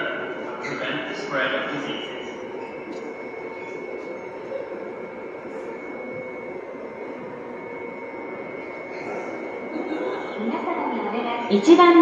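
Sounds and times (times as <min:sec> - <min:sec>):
subway platform hum: 0:00.0 - 0:12.0
thin high whine: 0:00.0 - 0:12.0.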